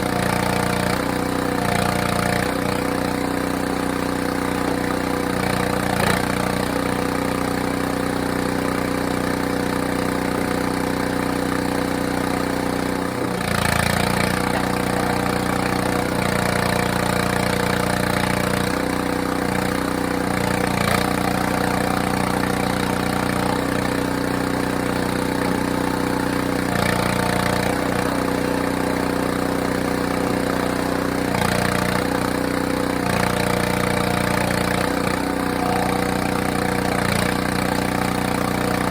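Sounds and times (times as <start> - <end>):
log splitter engine running: 0.0 - 38.9.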